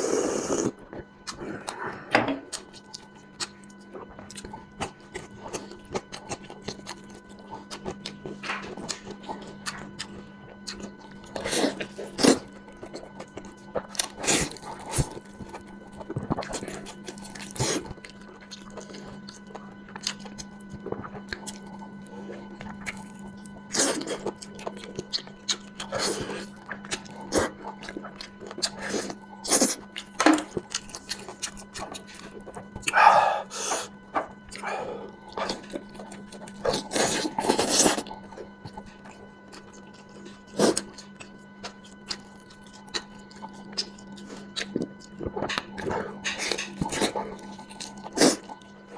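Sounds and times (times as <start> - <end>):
person chewing wetly: 0.0 - 48.9
steady low hum: 0.0 - 48.9.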